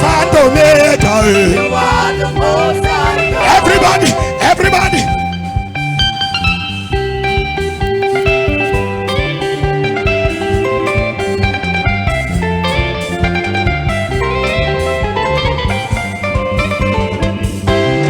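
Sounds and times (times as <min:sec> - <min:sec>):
electric guitar melody: 0:00.0 - 0:18.0
live band playing instrumental: 0:00.0 - 0:18.0.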